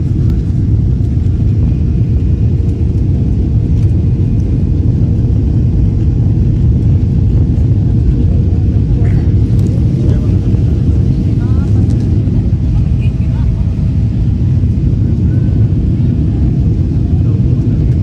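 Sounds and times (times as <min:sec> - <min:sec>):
constant low hum: 0:00.0 - 0:18.0
jet engines rumbling in cabin: 0:00.0 - 0:18.0.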